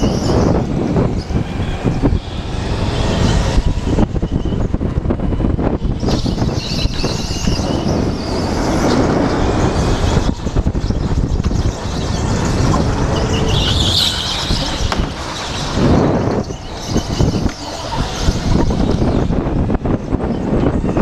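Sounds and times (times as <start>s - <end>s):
go-kart motor and wind rush: 0.0s - 21.0s
high engine whine: 0.0s - 21.0s.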